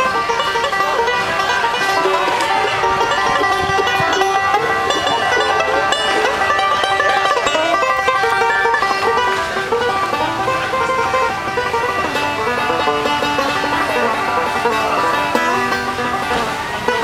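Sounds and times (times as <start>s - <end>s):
banjo picking: 0.0s - 17.0s.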